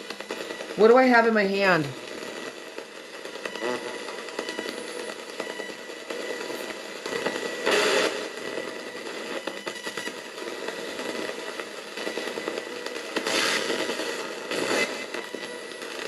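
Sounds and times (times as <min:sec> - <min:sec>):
choppy crackling radio static: 0:00.0 - 0:16.0
thin steady whine: 0:00.0 - 0:16.0.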